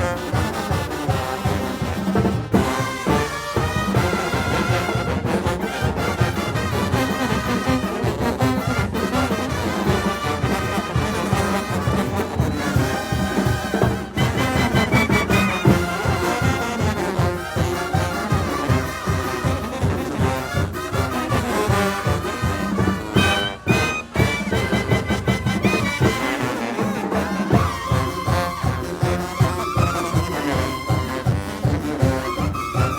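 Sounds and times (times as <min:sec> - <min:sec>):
brass bands playing: 0:00.0 - 0:32.9.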